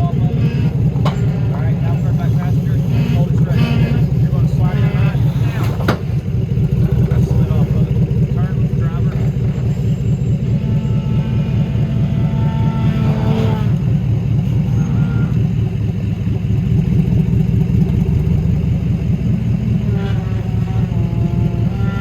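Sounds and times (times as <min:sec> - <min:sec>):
off-road vehicle engine rumbling: 0:00.0 - 0:22.0.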